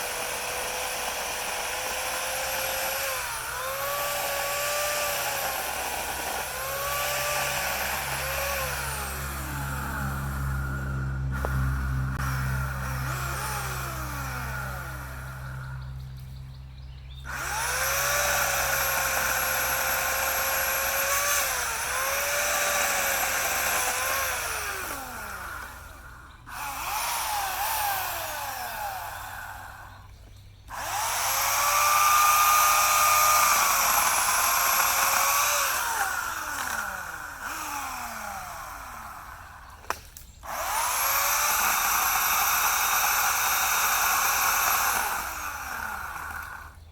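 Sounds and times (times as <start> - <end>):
electric chainsaw motor whining: 0.0 - 46.9.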